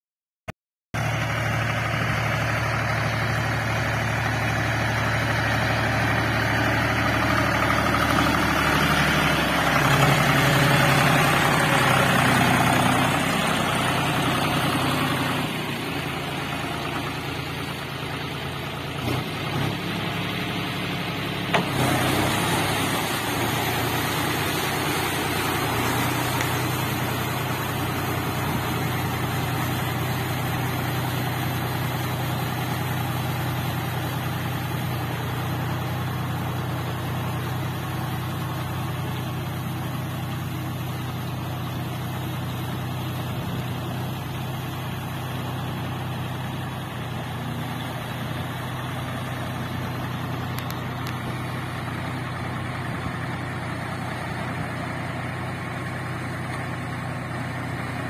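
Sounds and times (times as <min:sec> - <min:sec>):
tractor diesel engine under load: 0:01.0 - 0:58.0.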